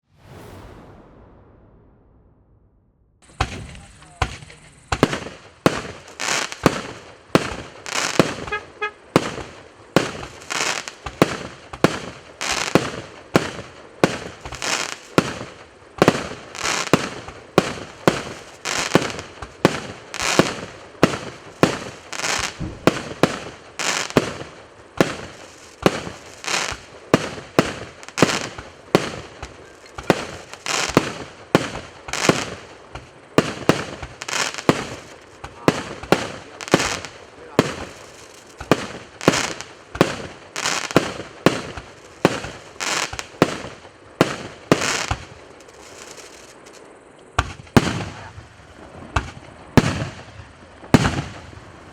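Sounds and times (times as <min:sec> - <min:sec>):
fireworks aerial bursts: 0:00.0 - 0:51.9
fireworks launching: 0:00.0 - 0:51.9.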